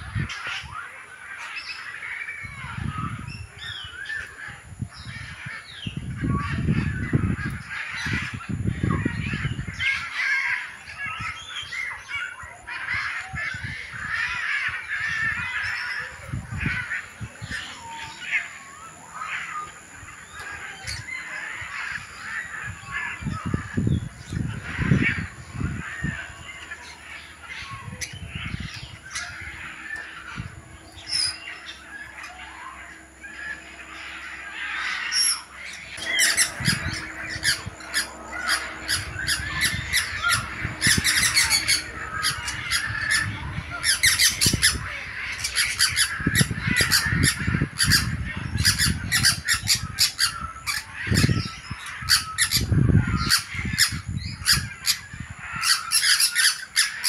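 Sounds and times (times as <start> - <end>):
parrots squawking and chattering: 0.0 - 57.0.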